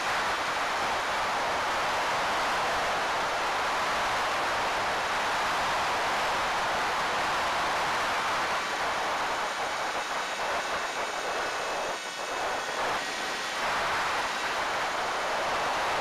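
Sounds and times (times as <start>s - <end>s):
wind rushing over camera: 0.0s - 16.0s.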